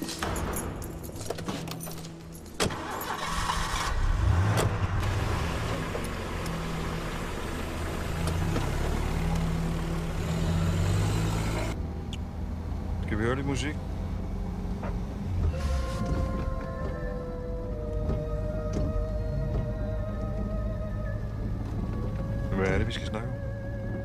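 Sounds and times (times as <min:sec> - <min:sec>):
car engine starting and driving off: 0:02.6 - 0:24.0.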